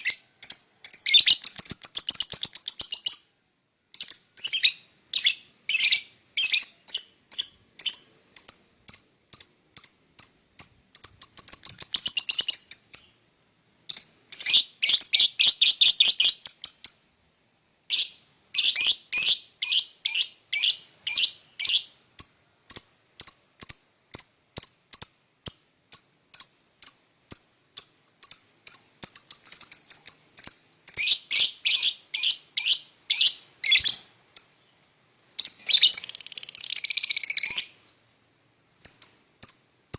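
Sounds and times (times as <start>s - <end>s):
lovebird chirping: 0.0s - 13.2s, 13.8s - 17.2s, 17.9s - 37.9s, 38.8s - 39.9s.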